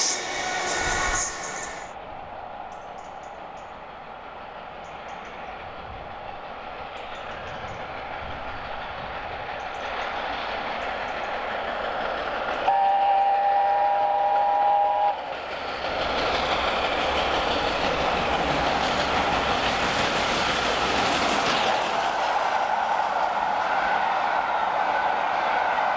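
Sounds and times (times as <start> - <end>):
steam locomotive running: 0.0 - 25.9.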